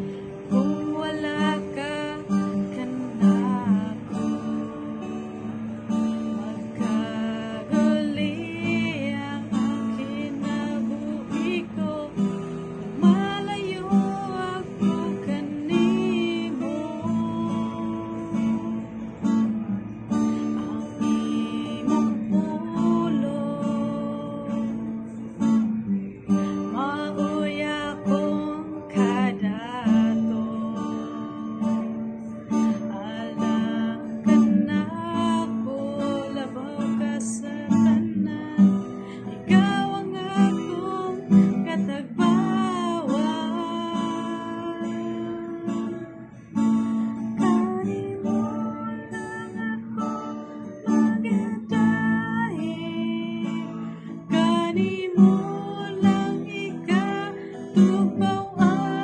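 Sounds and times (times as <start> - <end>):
strummed acoustic guitar: 0.0 - 59.0
woman singing: 0.0 - 59.0.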